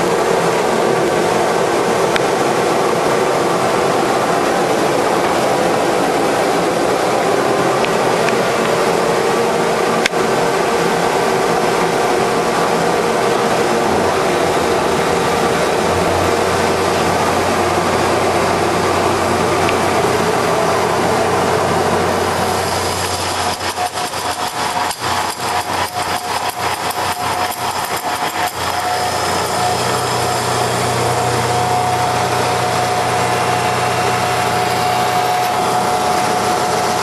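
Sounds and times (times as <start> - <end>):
lathe running: 0.0 - 37.0
rapid regular pulsing: 0.0 - 37.0.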